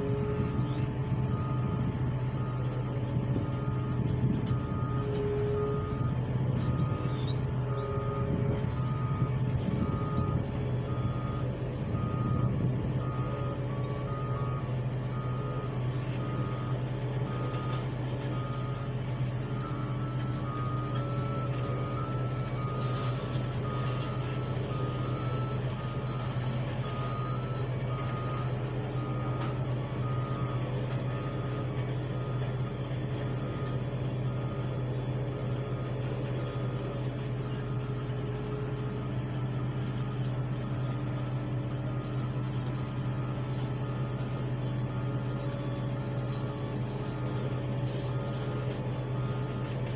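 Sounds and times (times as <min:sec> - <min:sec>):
heavy machinery engine drone: 0:00.0 - 0:49.9
reversing alarm beeping: 0:00.0 - 0:49.9.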